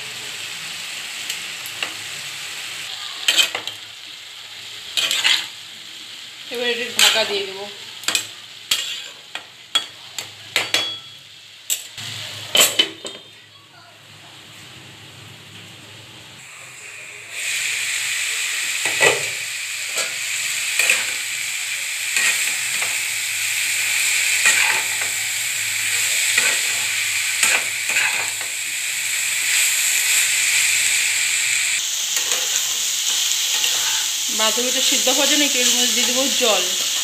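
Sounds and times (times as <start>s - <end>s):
vegetables sizzling in a pan: 0.0s - 37.0s.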